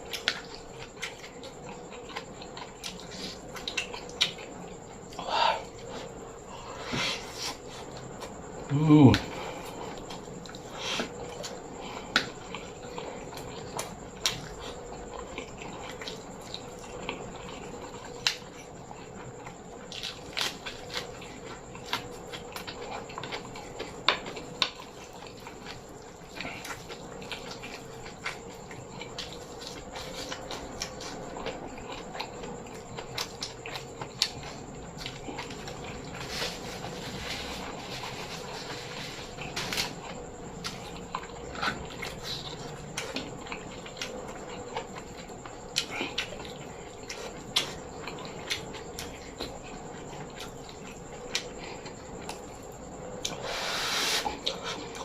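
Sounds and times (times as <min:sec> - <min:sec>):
faint steady hum: 0:00.0 - 0:55.0
person chewing food: 0:00.0 - 0:55.0.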